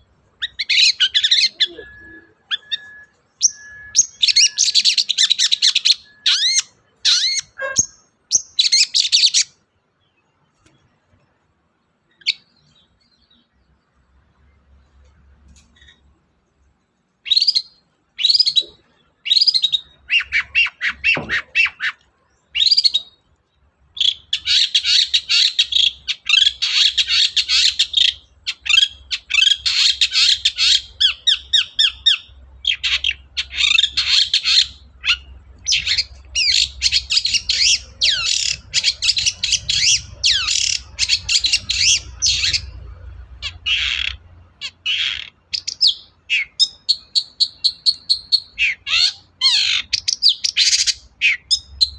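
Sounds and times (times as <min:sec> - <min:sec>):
bird singing chattering phrases: 0:00.0 - 0:10.3, 0:16.8 - 0:51.9.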